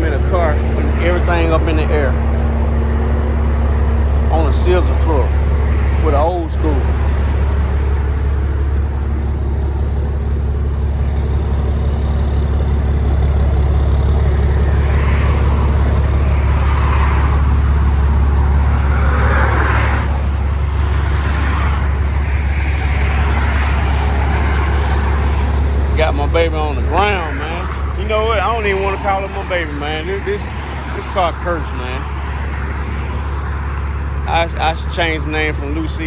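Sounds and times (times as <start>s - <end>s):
truck engine low drone: 0.0s - 36.0s.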